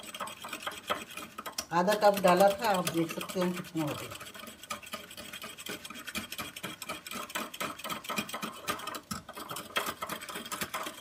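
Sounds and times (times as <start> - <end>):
whisk rattling in a ceramic mug: 0.0 - 11.0.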